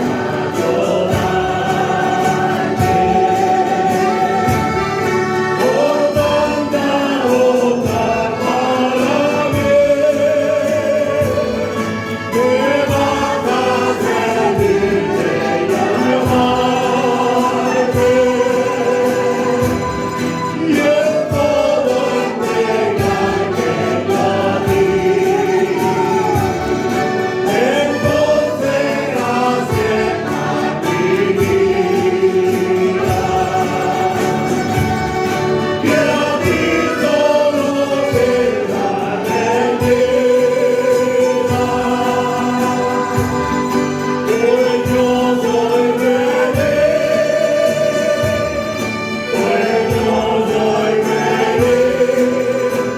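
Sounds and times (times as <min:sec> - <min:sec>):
choir singing a hymn: 0:00.0 - 0:52.9
instrumental accompaniment: 0:00.0 - 0:52.9.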